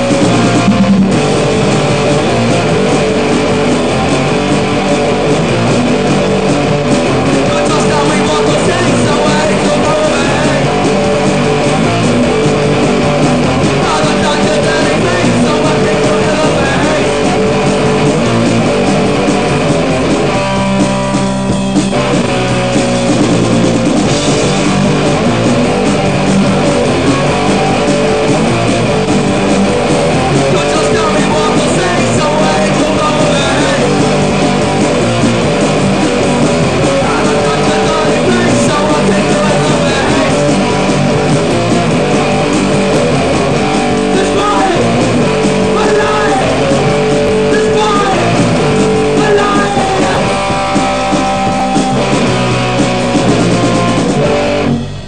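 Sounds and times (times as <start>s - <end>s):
electric guitar: 0.0s - 55.0s
hardcore punk song: 0.0s - 55.0s.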